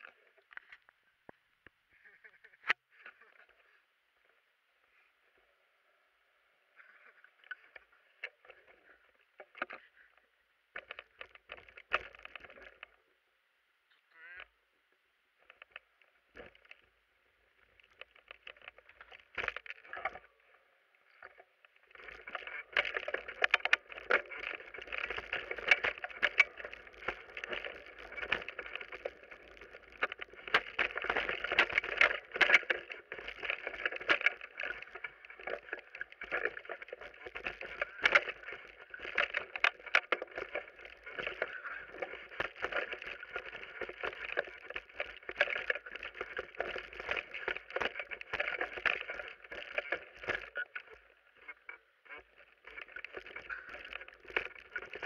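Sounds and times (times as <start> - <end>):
mountain bike rattling over trail: 7.1 - 13.0, 15.4 - 55.0.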